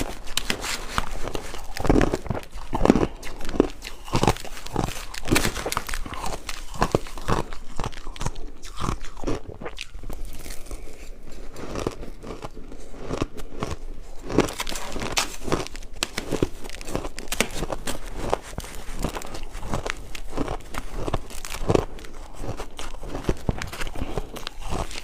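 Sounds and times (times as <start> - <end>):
ice crunching as chewed: 0.0 - 25.0.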